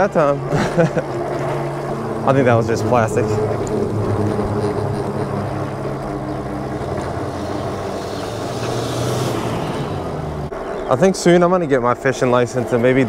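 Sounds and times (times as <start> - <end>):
rushing noise: 0.0 - 12.5
e-bike tire and motor hum: 0.0 - 13.0.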